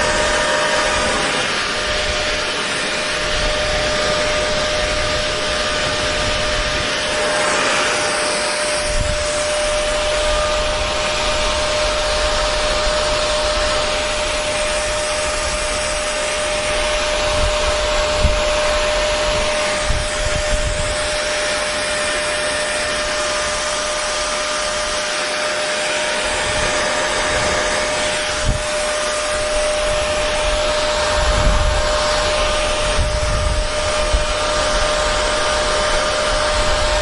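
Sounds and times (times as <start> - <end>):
hair dryer blowing: 0.0 - 37.0.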